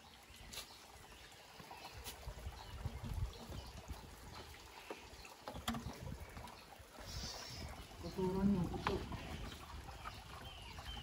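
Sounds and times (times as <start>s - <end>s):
spring water trickling: 0.0s - 11.0s.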